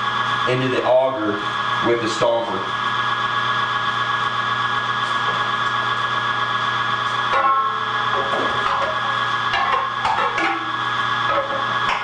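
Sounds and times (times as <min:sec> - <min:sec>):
electric meat grinder running: 0:00.0 - 0:12.0.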